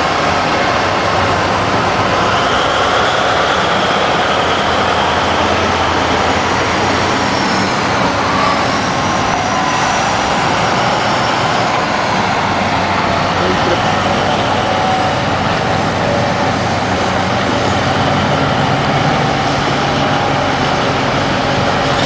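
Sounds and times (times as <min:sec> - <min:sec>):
heavy diesel drone: 0:00.0 - 0:22.0.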